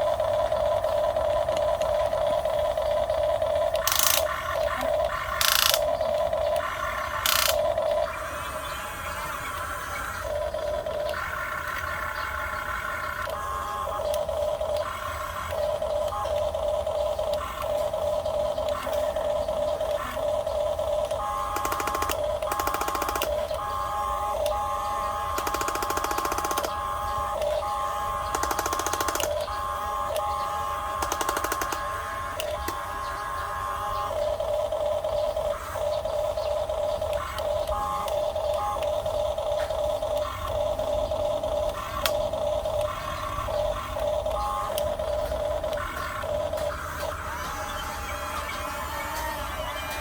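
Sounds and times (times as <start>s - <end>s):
small electric motors whining: 0.0s - 50.0s.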